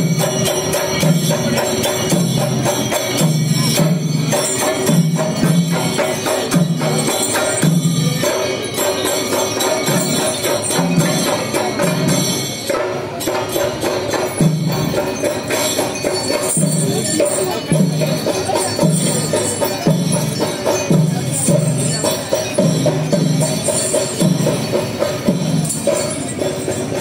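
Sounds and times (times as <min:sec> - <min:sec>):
drumming: 0:00.0 - 0:27.0
small hand cymbals clashing: 0:00.0 - 0:27.0.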